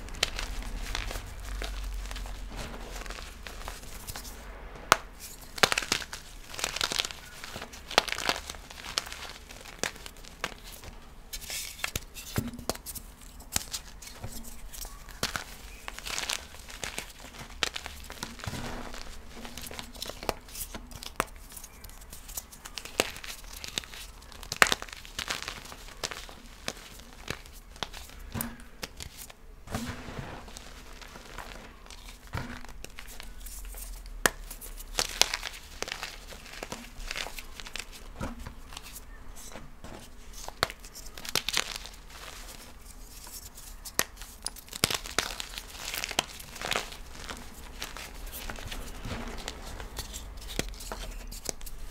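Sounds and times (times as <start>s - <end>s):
chalk crushed and crumbling: 0.0s - 51.9s.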